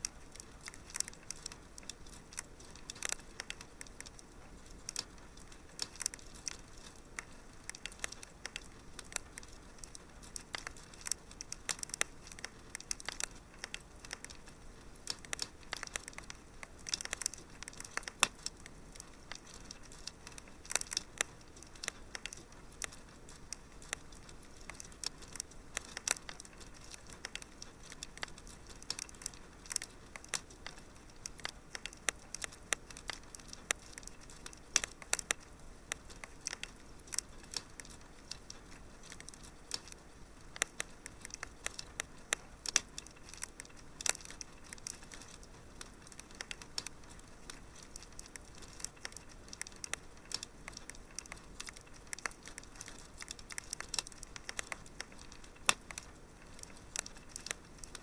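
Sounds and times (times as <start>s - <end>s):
faint steady hiss: 0.0s - 58.0s
wood fire crackling: 0.0s - 58.0s.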